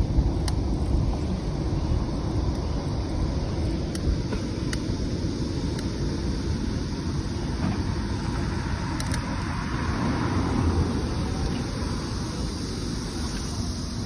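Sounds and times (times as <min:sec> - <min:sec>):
bicycle road noise: 0:00.0 - 0:14.0.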